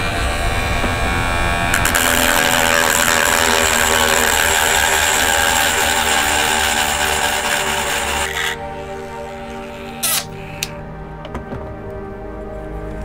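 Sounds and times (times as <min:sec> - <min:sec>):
rotary tool grinding plastic: 0:00.0 - 0:10.7.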